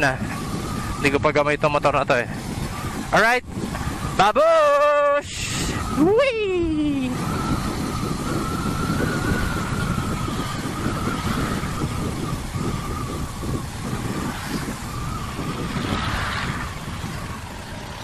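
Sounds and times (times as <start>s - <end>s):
dirt bike engine whine: 0.0s - 18.0s
wind buffeting microphone: 0.0s - 18.0s.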